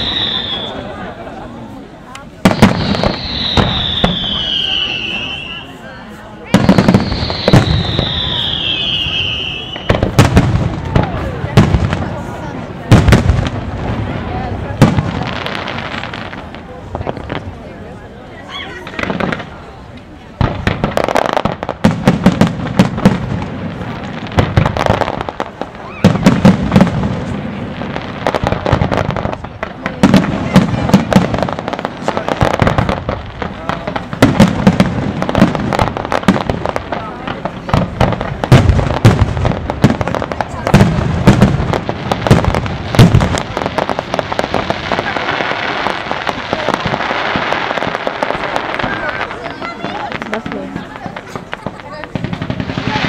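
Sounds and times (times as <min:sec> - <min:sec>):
firework bangs: 0:00.0 - 0:53.0.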